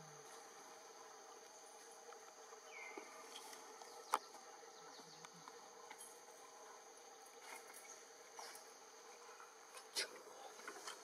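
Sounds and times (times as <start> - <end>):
faint drone of forest insects: 0.0 - 11.0.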